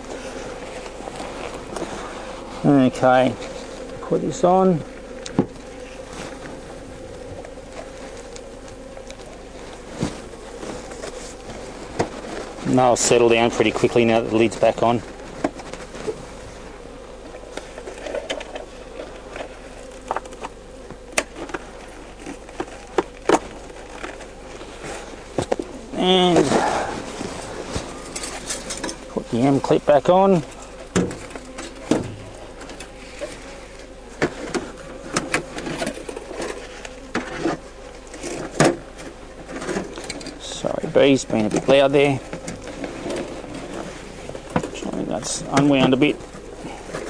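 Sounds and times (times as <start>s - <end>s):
bees buzzing: 0.0s - 47.0s.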